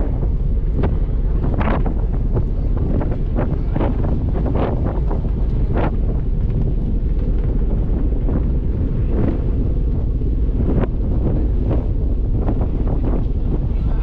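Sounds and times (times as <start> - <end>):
ferry engine rumble: 0.0 - 14.0
wind buffeting microphone: 0.0 - 14.0.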